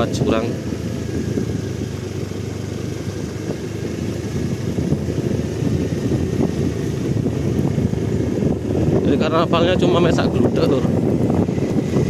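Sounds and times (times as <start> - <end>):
motorcycle engine rumbling: 0.0 - 12.0
wind buffeting microphone: 0.0 - 12.0.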